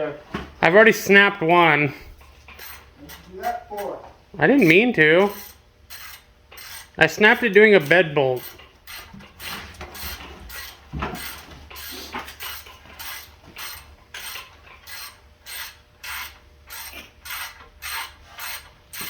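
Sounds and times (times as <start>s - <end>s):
ratchet wrench clicking: 2.5s - 3.9s, 4.6s - 19.0s.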